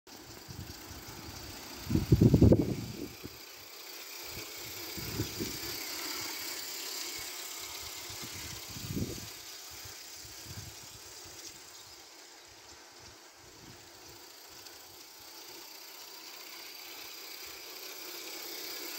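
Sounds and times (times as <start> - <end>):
steam locomotive hissing: 0.1 - 18.9.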